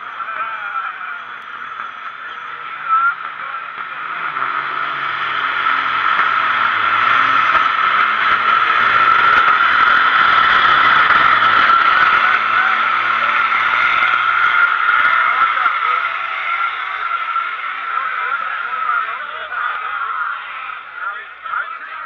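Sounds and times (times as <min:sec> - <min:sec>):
diesel trucks at full throttle: 0:00.0 - 0:22.0.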